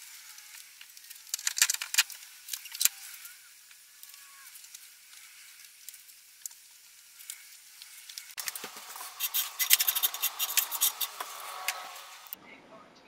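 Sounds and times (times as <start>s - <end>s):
cable rustling and clicking on metal: 0.0s - 12.4s.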